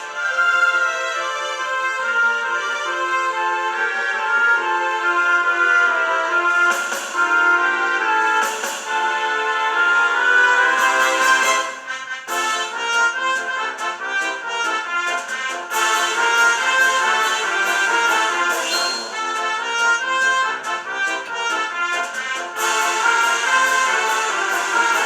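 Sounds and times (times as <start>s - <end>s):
instrumental tune with accordion and brass: 0.0s - 25.0s.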